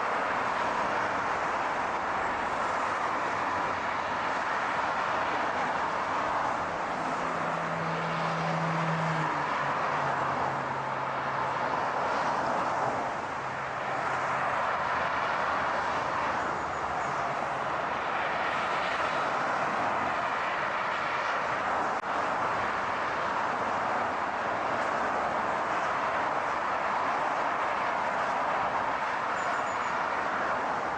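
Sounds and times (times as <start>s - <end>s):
road and tyre noise: 0.0s - 30.9s.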